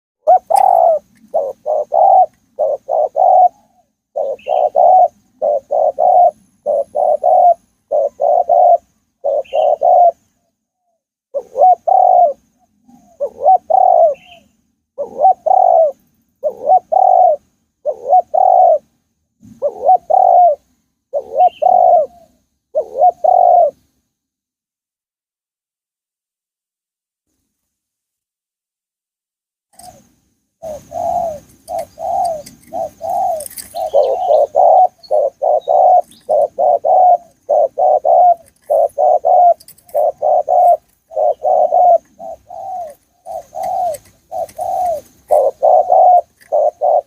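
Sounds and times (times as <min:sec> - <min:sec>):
faint high bird chirps: 0:00.2 - 0:18.8, 0:19.5 - 0:23.8, 0:29.8 - 0:47.0
dove cooing: 0:00.2 - 0:23.9, 0:29.8 - 0:47.0.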